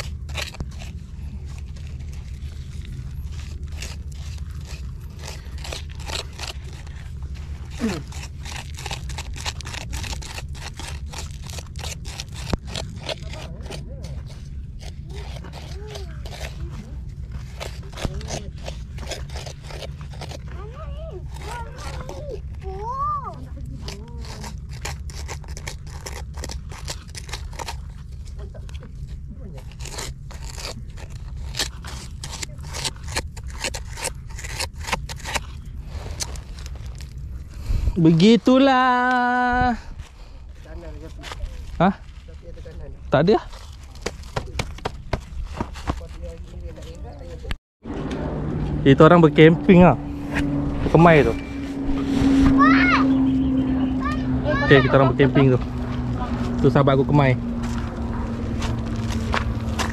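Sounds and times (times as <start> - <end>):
scraper digging in gravelly sand: 0.0 - 38.7, 49.2 - 59.9
steady low rumble: 0.0 - 59.9.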